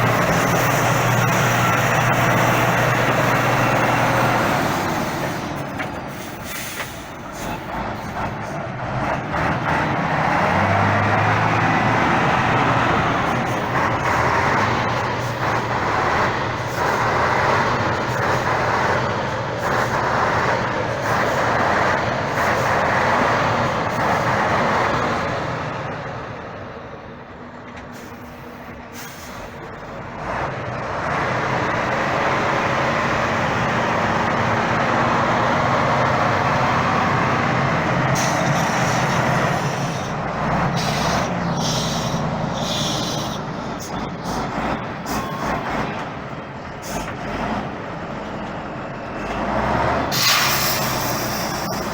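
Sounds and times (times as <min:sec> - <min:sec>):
truck engine running hard: 0:00.0 - 0:51.9.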